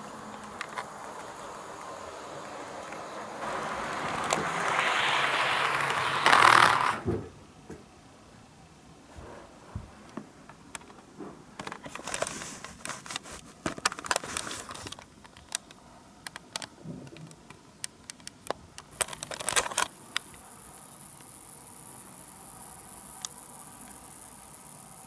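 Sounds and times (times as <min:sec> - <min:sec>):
model train wheels clicking: 0:00.0 - 0:07.0, 0:11.6 - 0:25.0.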